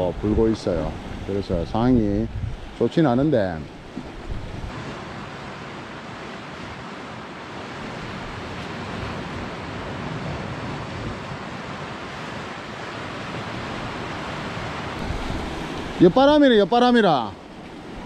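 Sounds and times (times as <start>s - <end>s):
sea waves washing against rocks: 0.0s - 18.0s
wind gusting on microphone: 0.0s - 18.0s.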